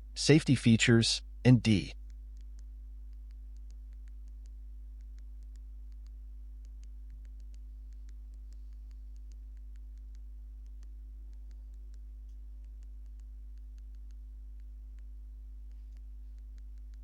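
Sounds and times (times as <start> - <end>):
faint ticks: 2.0 - 17.0.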